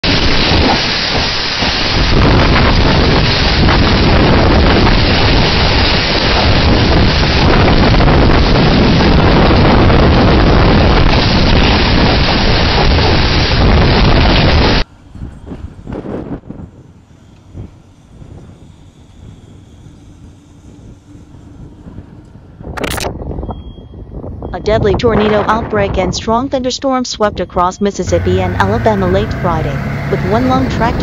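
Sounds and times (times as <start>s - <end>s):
loud rushing tornado wind: 0.0s - 31.0s.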